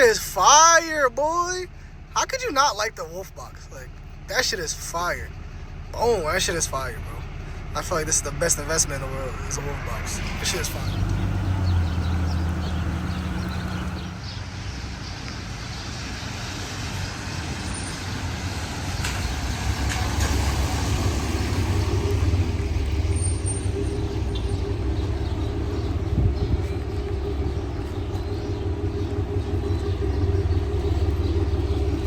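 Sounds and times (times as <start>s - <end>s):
road noise: 0.0s - 32.0s
truck engine: 0.0s - 32.0s.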